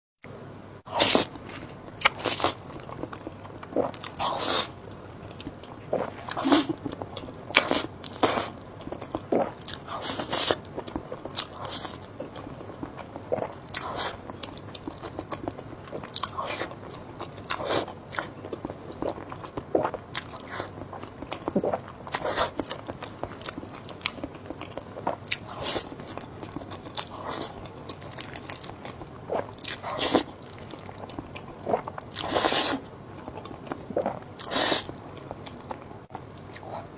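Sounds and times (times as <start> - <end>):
person chewing crunchy food: 0.9 - 36.9.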